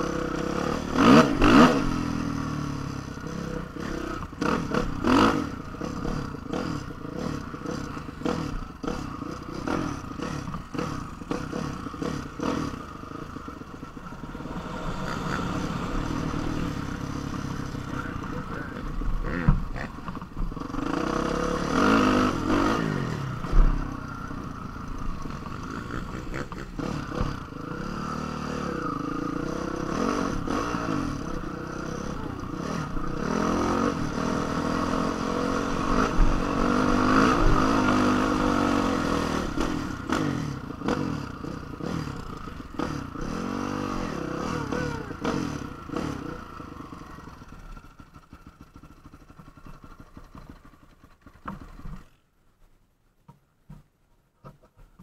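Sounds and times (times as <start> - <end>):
dirt bike engine revving: 0.0 - 52.1.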